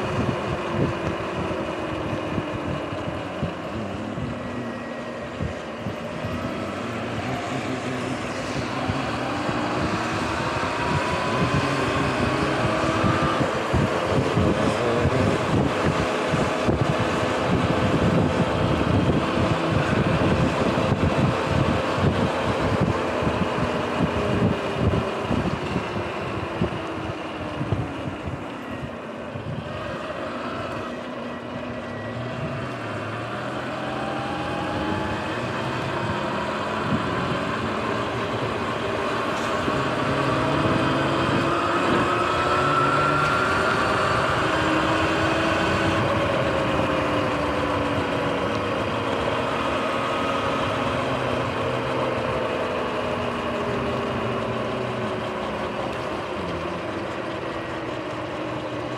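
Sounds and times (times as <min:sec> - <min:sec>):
wind buffeting microphone: 0:00.0 - 0:58.5
electric motor whine: 0:00.0 - 0:58.9.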